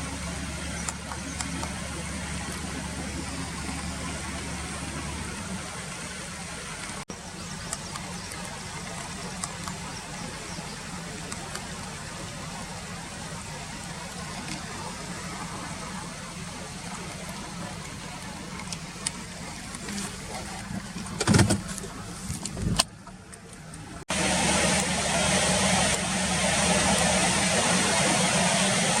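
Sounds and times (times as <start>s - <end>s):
low engine hum: 0.0s - 29.0s
river water flowing: 0.0s - 29.0s.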